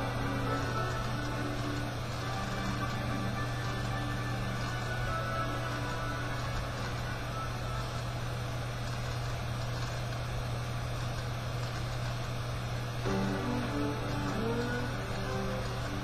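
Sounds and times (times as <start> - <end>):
machine-like rumble from television: 0.0 - 16.0
steady low hum: 0.0 - 16.0.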